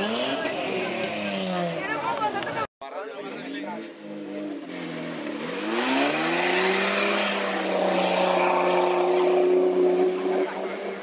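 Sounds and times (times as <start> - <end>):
engine at high revs: 0.0 - 2.0, 3.4 - 11.0.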